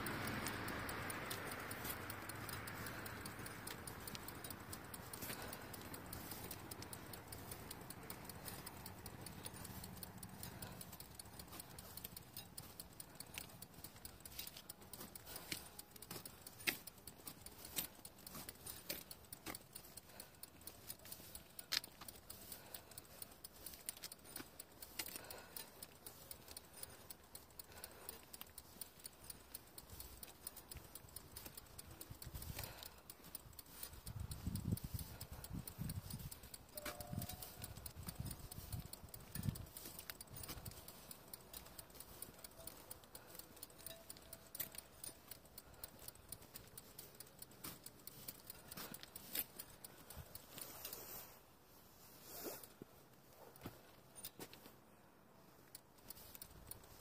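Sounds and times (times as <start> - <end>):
bicycle clicking and rattling: 0.0 - 51.4, 52.2 - 54.8, 55.5 - 57.0.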